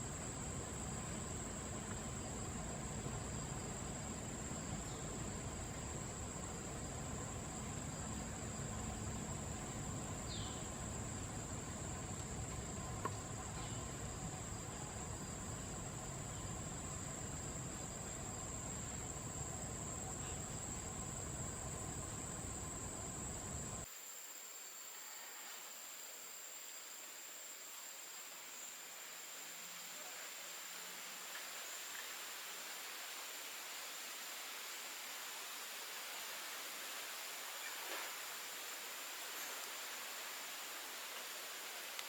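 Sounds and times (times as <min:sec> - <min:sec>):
insects droning high-pitched: 0:00.0 - 0:42.0.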